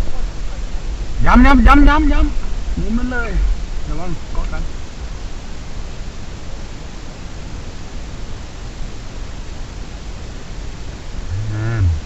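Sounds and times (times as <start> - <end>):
steady rushing noise with low rumble: 0.0 - 12.0.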